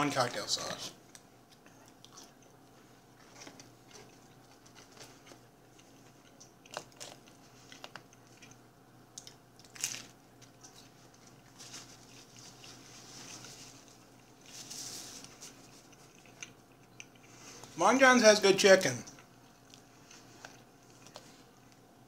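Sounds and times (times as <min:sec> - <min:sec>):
chewing crispy fried chicken: 0:00.2 - 0:17.8, 0:18.8 - 0:22.0.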